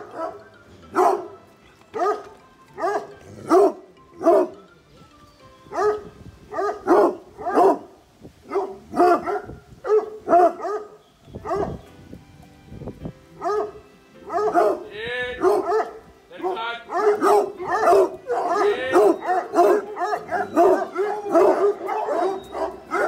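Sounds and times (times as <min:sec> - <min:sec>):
hounds barking: 0:00.0 - 0:04.6, 0:05.7 - 0:11.8, 0:13.4 - 0:23.0.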